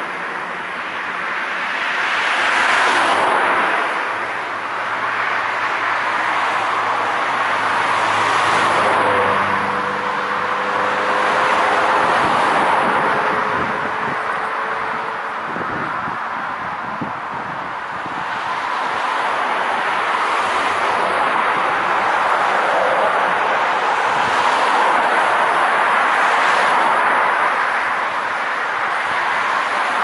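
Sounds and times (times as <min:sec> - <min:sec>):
cars passing on a road: 0:00.0 - 0:30.0.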